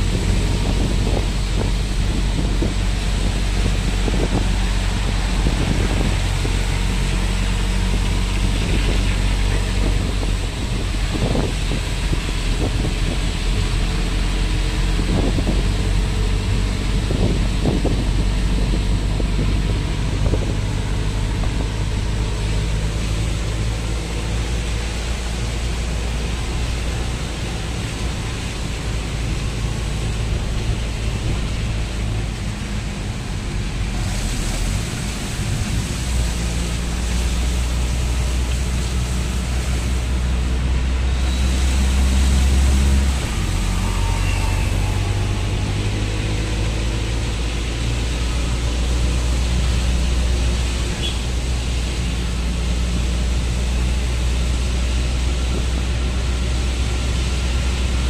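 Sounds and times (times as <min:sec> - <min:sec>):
tyres hissing on wet road: 0:00.0 - 0:58.0
wind: 0:00.0 - 0:58.0.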